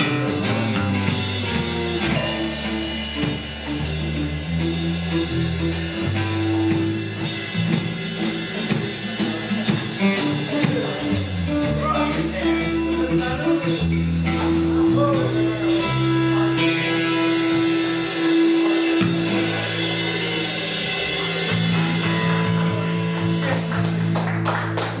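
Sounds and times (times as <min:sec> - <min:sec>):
drum and cymbal hits: 0:00.0 - 0:24.2
electric bass low notes: 0:00.0 - 0:25.0
live rock band playing: 0:00.0 - 0:25.0.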